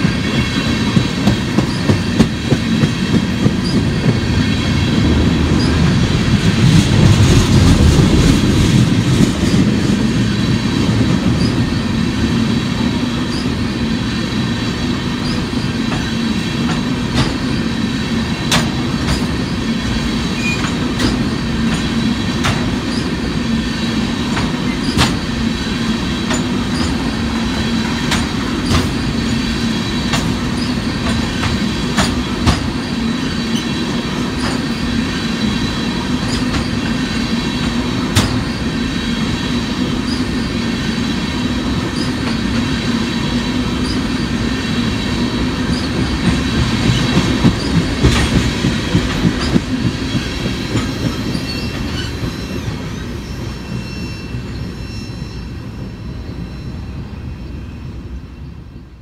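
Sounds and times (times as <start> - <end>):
sharp clicks of train wheels: 0.0 - 53.8
steel wheels rumbling on rail: 0.0 - 59.0.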